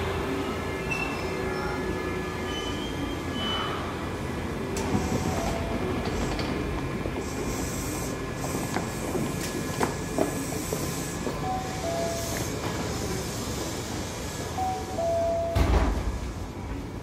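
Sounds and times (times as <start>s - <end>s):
station platform noise: 0.0s - 17.0s.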